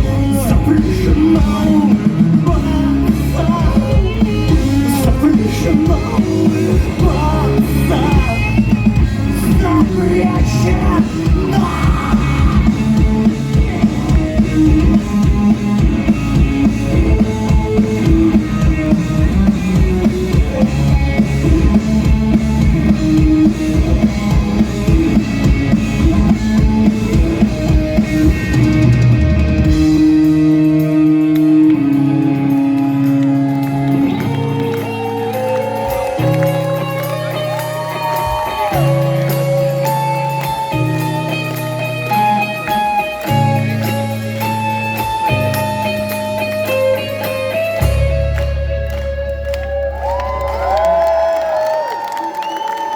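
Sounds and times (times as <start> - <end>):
bass guitar: 0.0 - 52.6
drum kit: 0.0 - 52.9
electric guitar: 0.0 - 52.9.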